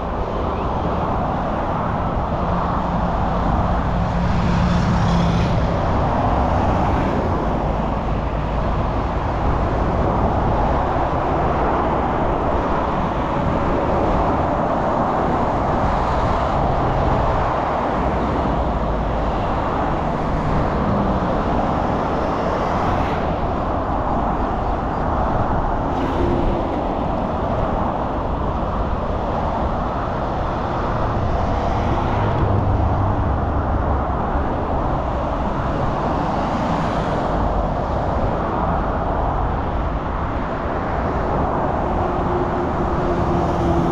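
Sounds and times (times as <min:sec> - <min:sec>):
road traffic noise: 0:00.0 - 0:43.9.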